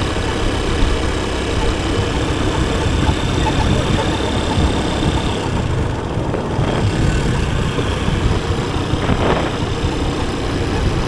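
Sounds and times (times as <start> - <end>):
motorcycle engine rumble: 0.0 - 11.0
road noise: 0.0 - 11.0.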